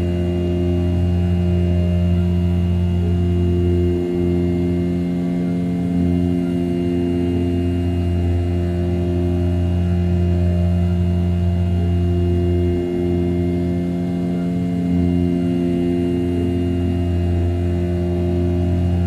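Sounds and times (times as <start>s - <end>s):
mill spindle cutting metal hum: 0.0s - 19.0s.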